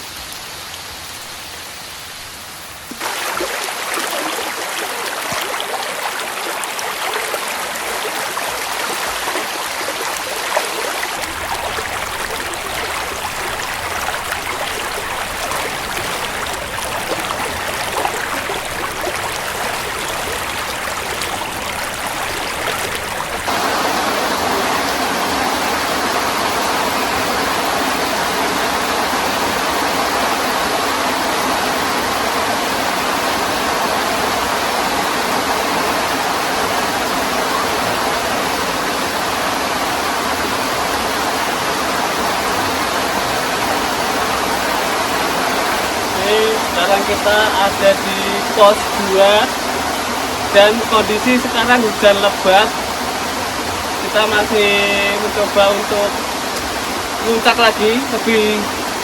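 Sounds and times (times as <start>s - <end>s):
heavy rain in forest: 0.0s - 59.0s.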